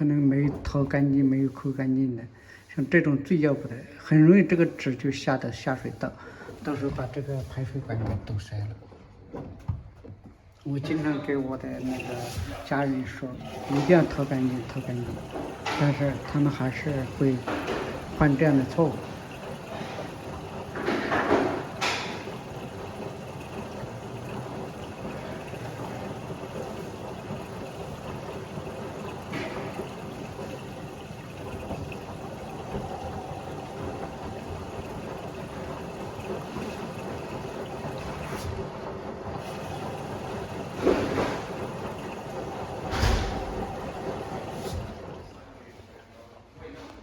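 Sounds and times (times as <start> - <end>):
washer drum humming: 0.0 - 46.0
water sloshing: 5.6 - 45.7.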